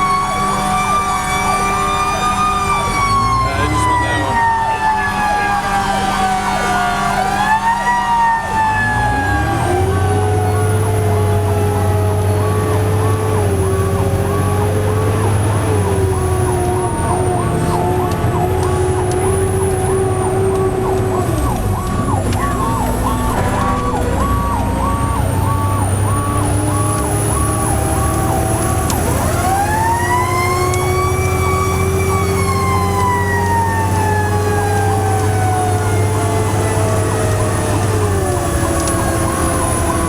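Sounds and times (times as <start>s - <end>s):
fire truck siren yelping: 0.0s - 40.0s
siren winding up and falling: 0.0s - 40.0s
truck engine drone: 0.0s - 40.0s.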